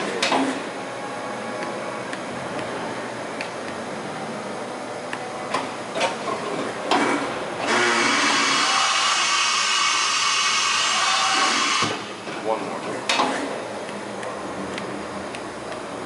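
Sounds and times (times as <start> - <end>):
machine whir and hiss: 0.0 - 16.0
steady machine hum: 0.0 - 16.0.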